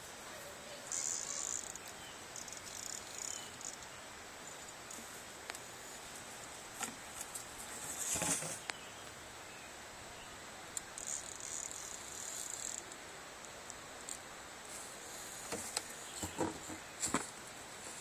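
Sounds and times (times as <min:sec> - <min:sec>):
insects chirping: 0:00.0 - 0:18.0
rustle: 0:00.0 - 0:18.0.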